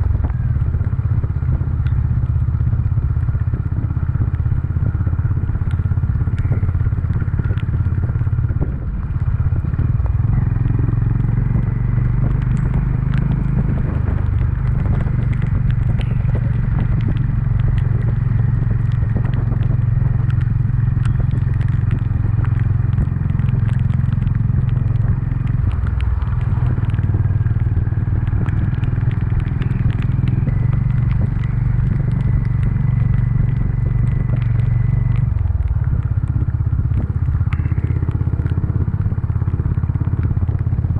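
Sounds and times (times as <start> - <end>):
motorcycle engine running: 0.0 - 40.9
small ticks and crackles: 0.1 - 40.9.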